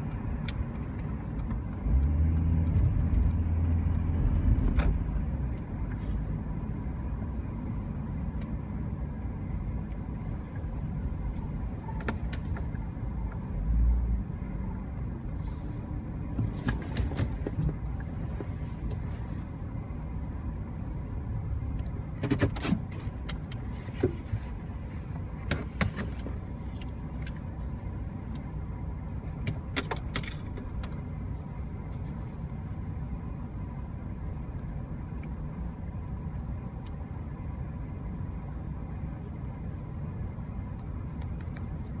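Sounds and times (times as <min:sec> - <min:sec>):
vehicle engine rumble: 0:00.0 - 0:42.0.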